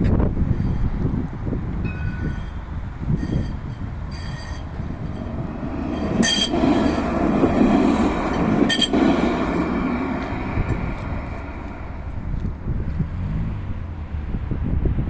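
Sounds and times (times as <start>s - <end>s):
tram motor hum: 0.0s - 14.6s
tram rumbling on rails: 0.0s - 15.0s
high-pitched rail squeals: 0.4s - 13.4s.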